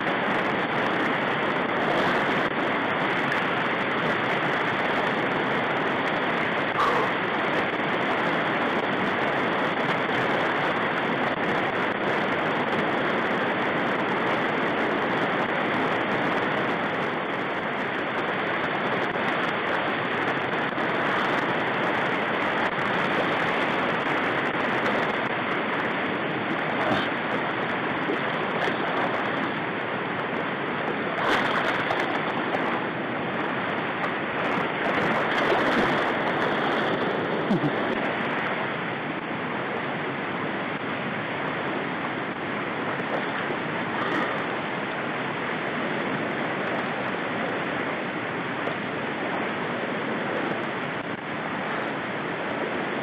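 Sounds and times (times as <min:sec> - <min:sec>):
river rapids rushing over rocks: 0:00.0 - 0:53.0.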